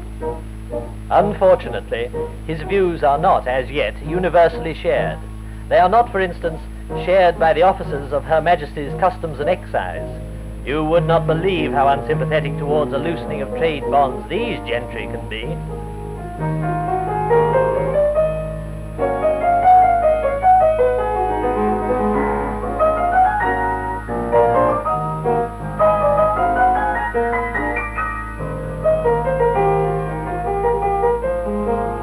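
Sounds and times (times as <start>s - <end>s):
piano music with quick runs: 0.0s - 32.0s
steady low hum: 0.0s - 32.0s.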